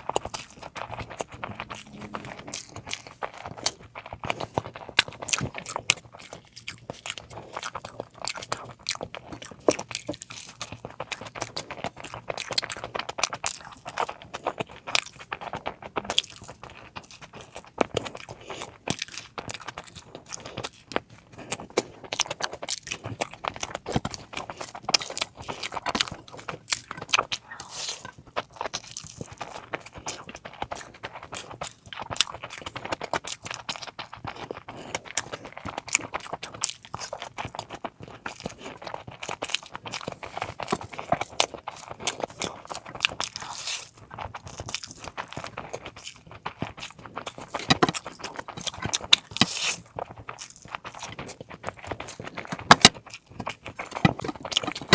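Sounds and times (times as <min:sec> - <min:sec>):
close chewing with wet smacks: 0:00.0 - 0:54.9.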